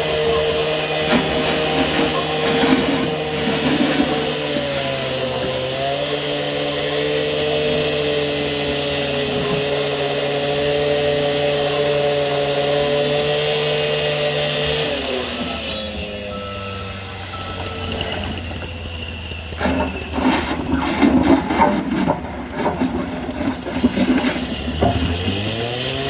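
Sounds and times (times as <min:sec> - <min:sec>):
gas-powered saw cutting: 0:00.0 - 0:26.0.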